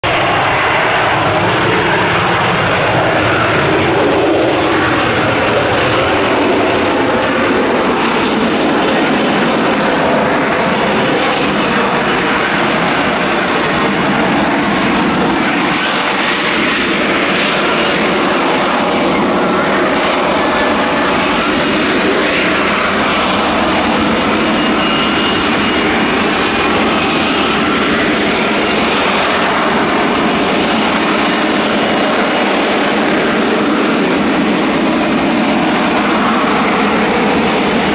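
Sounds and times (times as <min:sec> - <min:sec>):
jet engine roar: 0:00.0 - 0:37.9.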